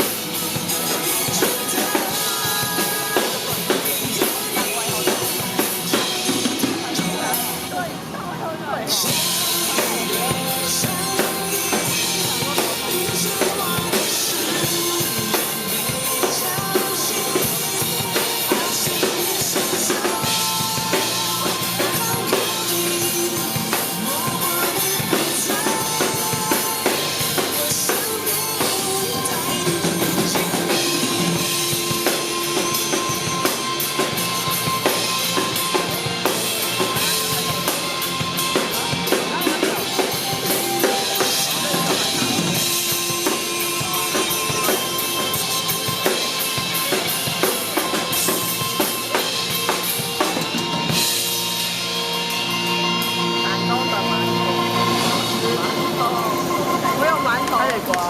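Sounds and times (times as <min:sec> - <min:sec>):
instrumental pop music over speakers: 0:00.0 - 0:58.0.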